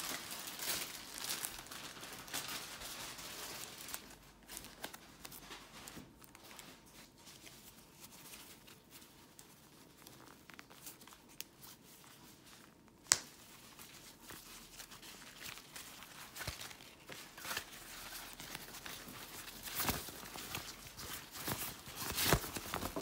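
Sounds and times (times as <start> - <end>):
plastic packet crinkling: 0.0 - 23.0.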